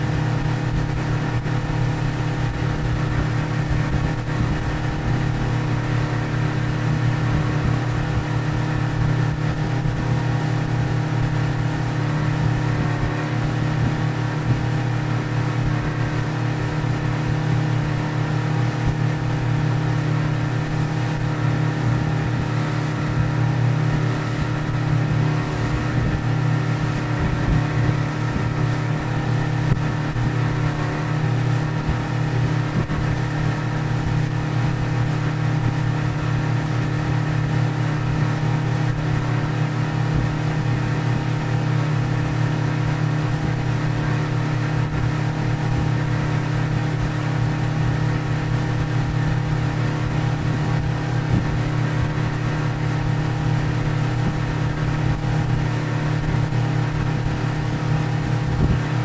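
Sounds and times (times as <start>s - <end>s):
outboard motor droning: 0.0s - 59.0s.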